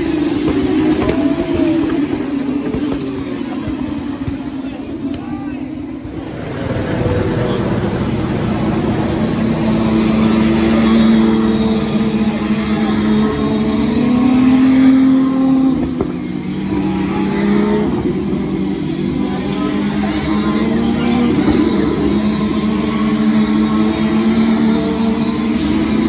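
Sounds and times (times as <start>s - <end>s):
racing car engines passing: 0.0s - 26.0s.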